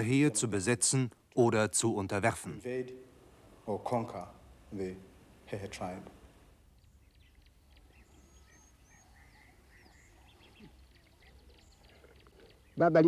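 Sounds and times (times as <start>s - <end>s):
low steady hum: 0.0s - 12.8s
faint birdsong: 0.0s - 13.0s.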